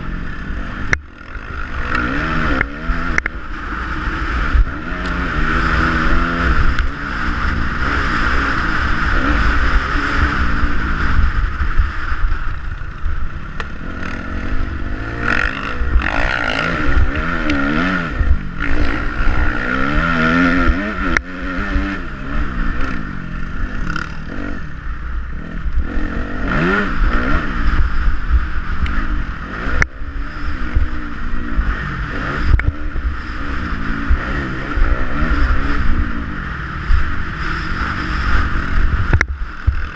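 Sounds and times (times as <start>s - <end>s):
motocross bike engine revving: 0.0s - 39.9s
wind rumble on microphone: 0.0s - 39.9s.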